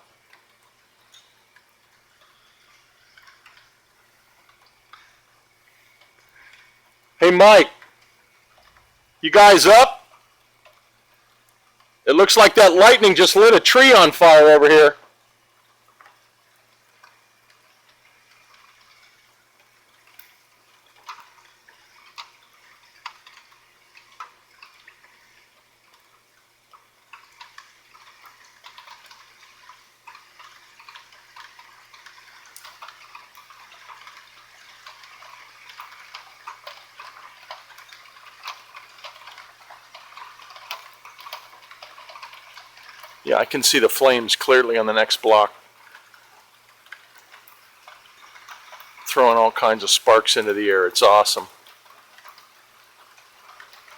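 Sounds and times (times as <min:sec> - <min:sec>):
faint ticks and crackles: 0:00.0 - 0:53.9.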